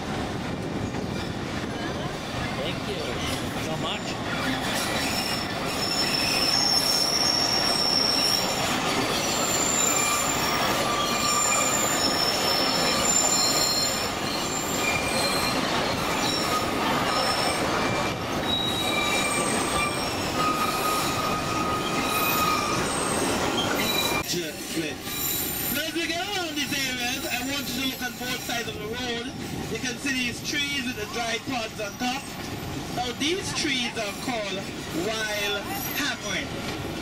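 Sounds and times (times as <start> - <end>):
train rolling rumble: 0.0 - 37.0
train wheels squealing: 3.0 - 29.8, 30.7 - 36.4.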